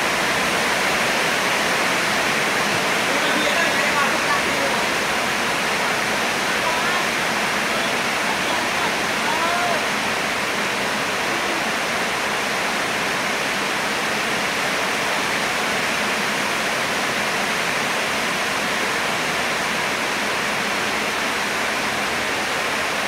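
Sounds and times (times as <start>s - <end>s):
heavy rain hiss: 0.0s - 23.0s.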